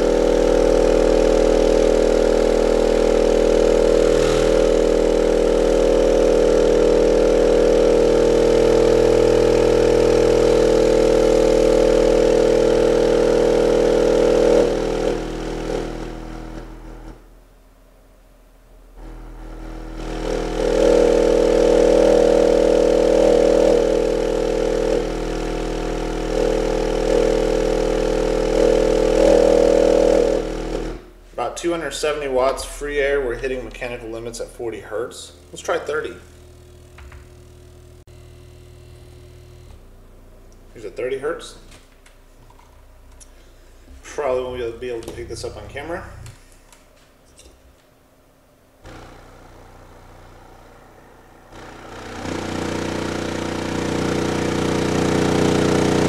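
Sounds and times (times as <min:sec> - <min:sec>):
distorted subwoofer buzz: 0:00.0 - 0:56.0.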